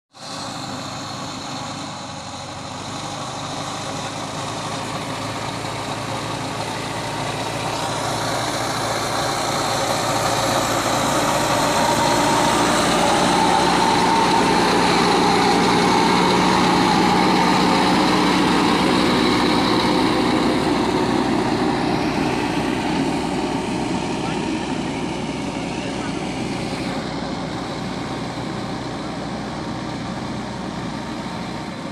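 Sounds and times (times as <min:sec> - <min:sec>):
diesel engine running: 0:00.1 - 0:31.9.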